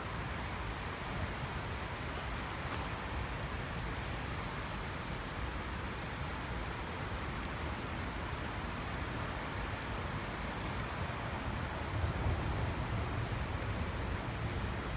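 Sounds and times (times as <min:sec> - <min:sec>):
campfire crackling: 0:00.5 - 0:14.9.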